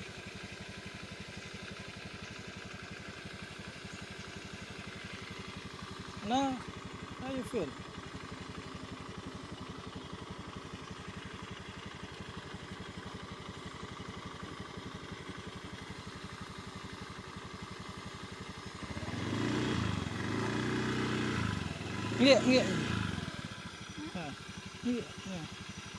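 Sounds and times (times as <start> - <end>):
scooter engine idling: 0.0 - 25.9.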